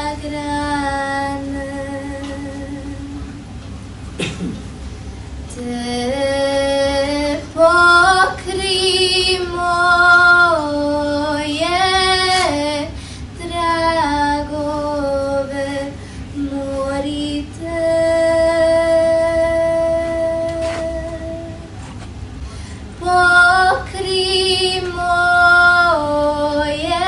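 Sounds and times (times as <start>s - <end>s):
girl singing slow melody: 0.0s - 3.6s, 5.5s - 21.8s, 22.6s - 27.0s.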